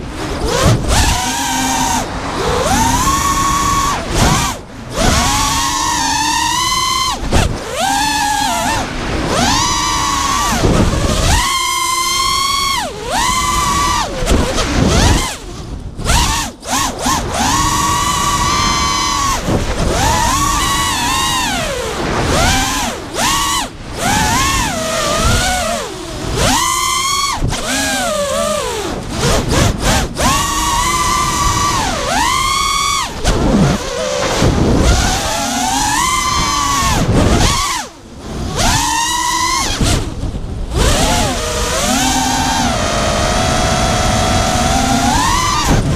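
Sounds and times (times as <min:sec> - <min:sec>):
quadcopter motors whining: 0:00.0 - 0:45.9.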